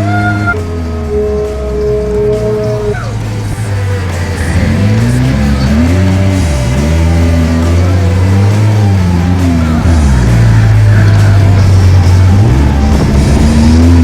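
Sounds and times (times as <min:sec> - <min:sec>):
music with heavy bass line: 0:00.0 - 0:14.0.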